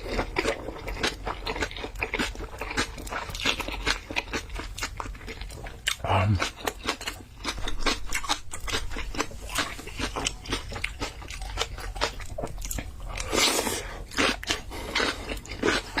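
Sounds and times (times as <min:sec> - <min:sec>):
wet chewing and smacking: 0:00.0 - 0:16.0.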